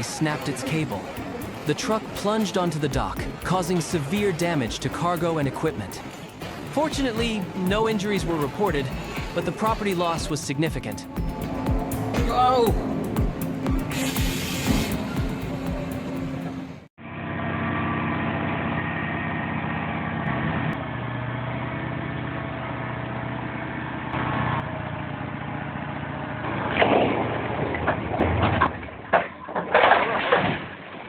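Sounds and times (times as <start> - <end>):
heavy vehicle engine running: 0.0 - 27.7.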